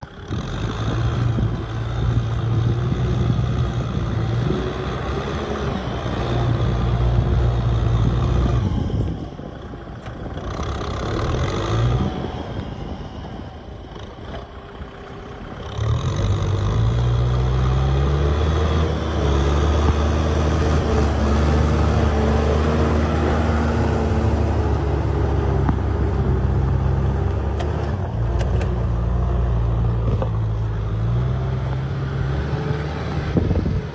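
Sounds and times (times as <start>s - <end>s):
tractor diesel engine drone: 0.0s - 33.9s.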